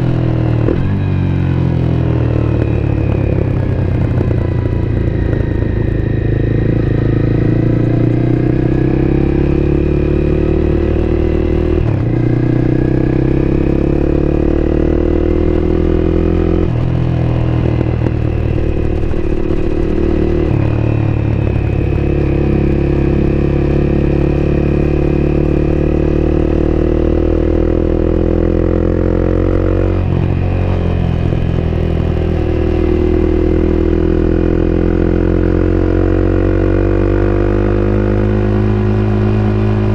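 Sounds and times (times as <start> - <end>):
motorcycle engine at riding speed: 0.0 - 39.9.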